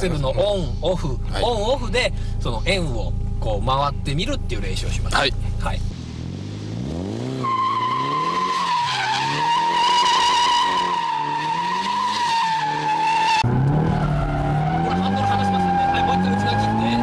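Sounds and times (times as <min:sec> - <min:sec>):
car engine revving: 0:01.0 - 0:17.0.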